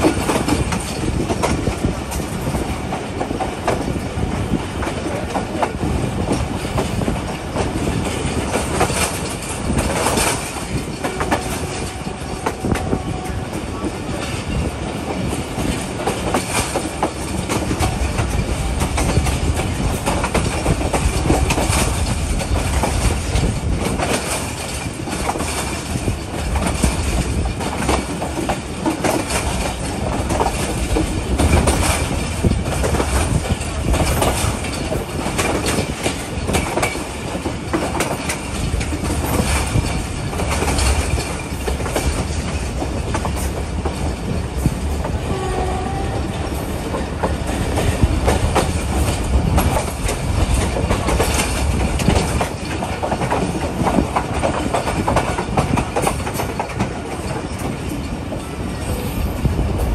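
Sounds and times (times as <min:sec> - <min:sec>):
train rumble: 0:00.0 - 0:59.9
wheels clattering over rail joints: 0:00.0 - 0:59.9.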